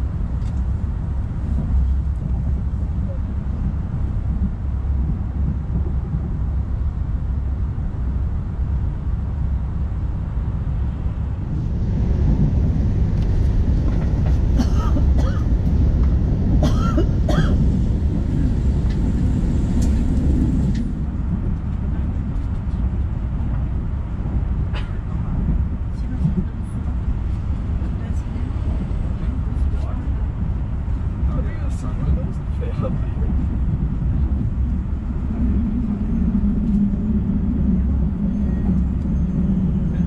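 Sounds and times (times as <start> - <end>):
train rumble: 0.0 - 40.0.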